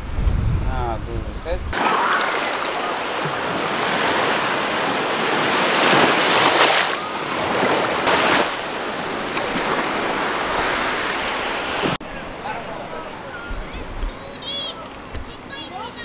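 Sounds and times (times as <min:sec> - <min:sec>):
sea surf washing over sand: 0:00.0 - 0:14.3.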